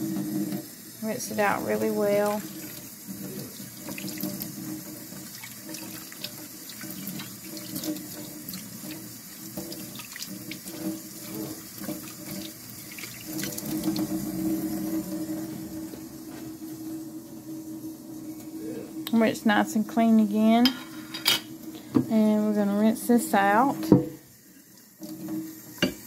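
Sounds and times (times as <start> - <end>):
water splashing in sink: 0.0 - 26.0.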